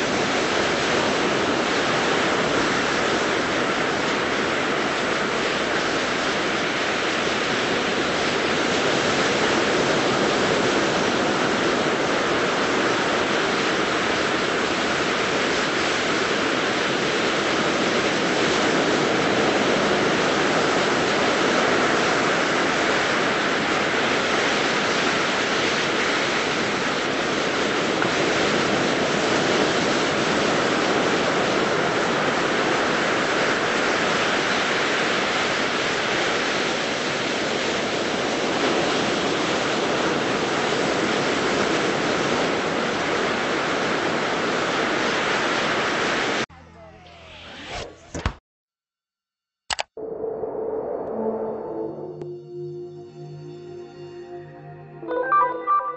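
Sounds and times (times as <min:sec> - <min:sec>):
ocean surf breaking on beach: 0:00.0 - 0:46.4.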